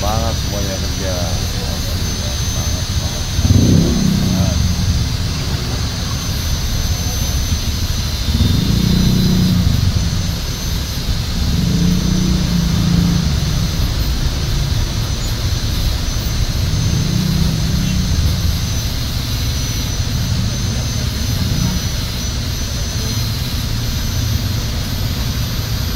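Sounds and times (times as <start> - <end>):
engine revving: 0.0 - 25.9
motorcycle and scooter engines: 0.0 - 25.9.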